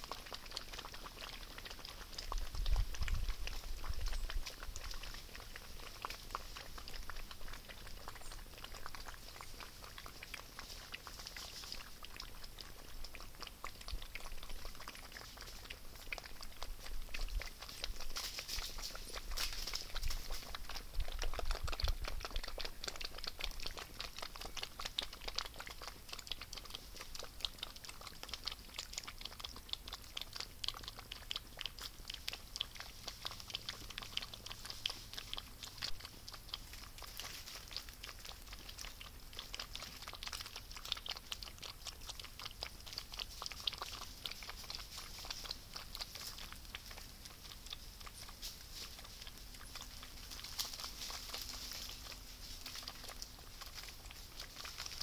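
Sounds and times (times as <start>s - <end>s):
animals lapping water: 0.0s - 55.0s
constant high hiss: 0.0s - 55.0s.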